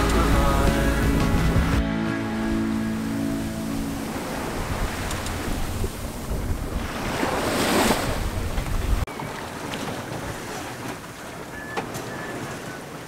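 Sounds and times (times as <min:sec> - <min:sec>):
waves rushing past hull: 0:00.0 - 0:13.0
wind buffeting microphone: 0:02.5 - 0:13.0.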